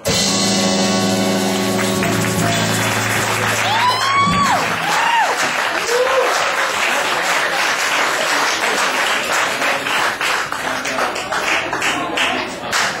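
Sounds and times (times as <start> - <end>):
audience applauding: 1.2 - 13.0.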